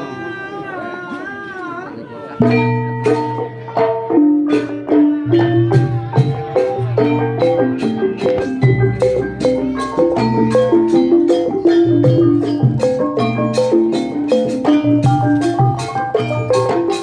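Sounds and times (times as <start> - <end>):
gamelan playing: 2.4 - 17.0.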